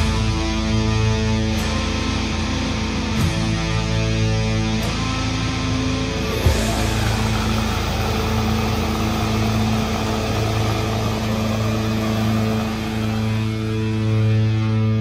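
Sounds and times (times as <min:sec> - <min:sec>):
distorted electric guitar metal music: 0:00.0 - 0:15.0.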